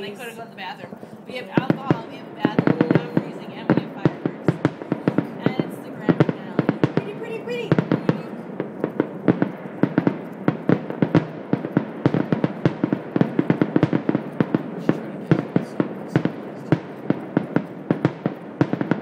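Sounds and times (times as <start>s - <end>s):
continuous rumble: 0.0s - 19.0s
fireworks shells bursting: 0.0s - 19.0s.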